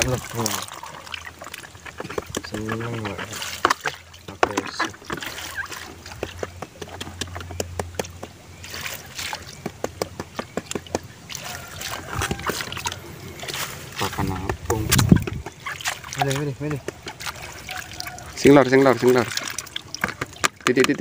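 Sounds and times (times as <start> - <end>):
fish ticking against plastic basket: 0.0 - 21.0
small fish splashing in water: 0.0 - 21.0.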